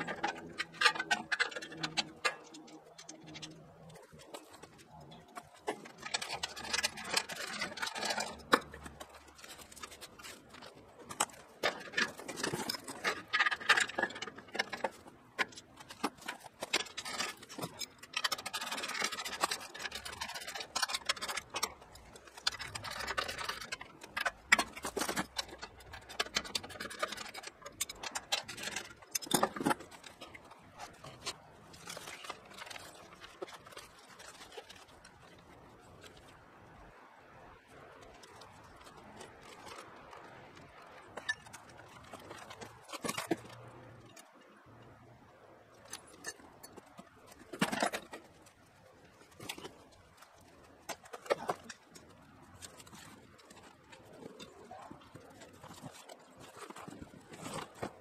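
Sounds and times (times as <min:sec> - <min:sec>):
parts clicking and knocking: 0:00.0 - 0:58.0
plastic and paper rustling: 0:00.0 - 0:58.0.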